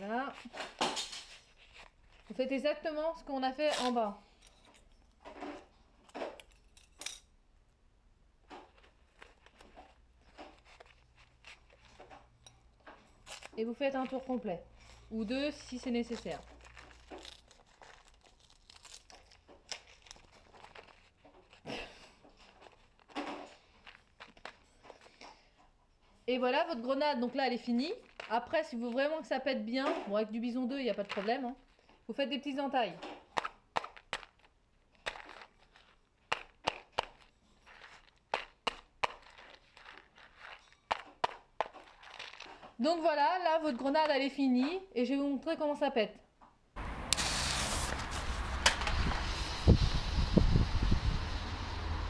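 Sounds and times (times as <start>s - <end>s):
masking tape crinkling and rustling: 0.0s - 6.8s, 8.4s - 44.9s, 46.8s - 50.7s.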